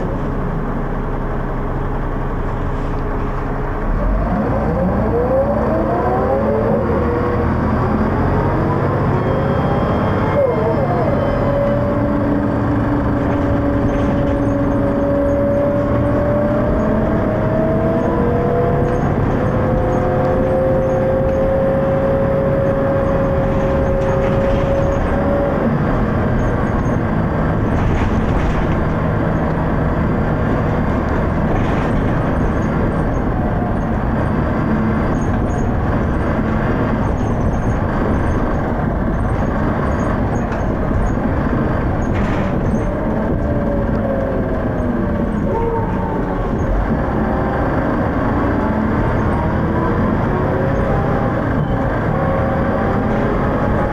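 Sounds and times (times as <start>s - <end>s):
bus gearbox whine: 0.0s - 53.9s
road rumble: 0.0s - 53.9s.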